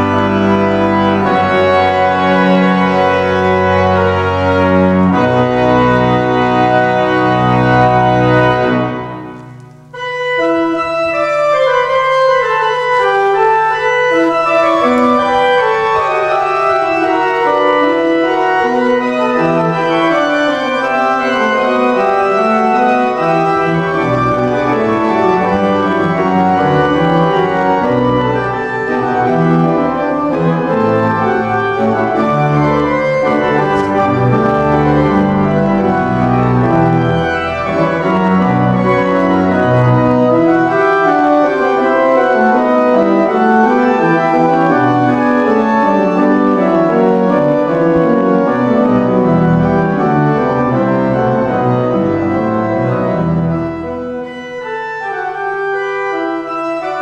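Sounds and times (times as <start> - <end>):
organ playing: 0.0 - 57.0.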